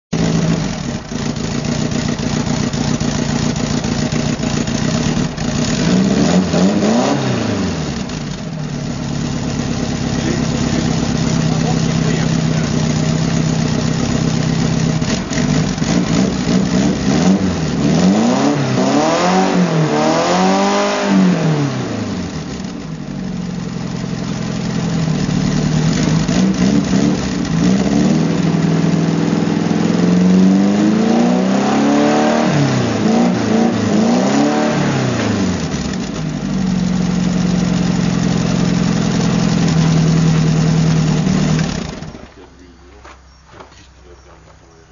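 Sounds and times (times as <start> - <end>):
car engine idling and revving: 0.1 - 44.9.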